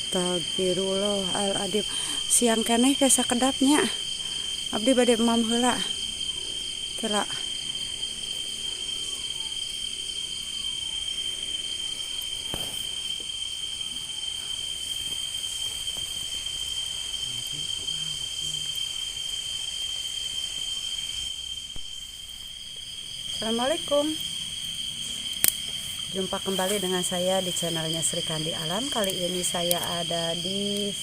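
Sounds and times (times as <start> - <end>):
crickets and insects trilling: 0.0 - 31.0.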